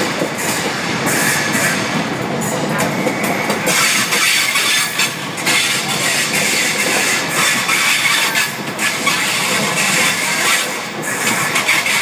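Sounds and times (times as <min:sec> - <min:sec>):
train coaches rushing past: 0:00.0 - 0:12.0
wheels clacking over rails: 0:00.0 - 0:12.0.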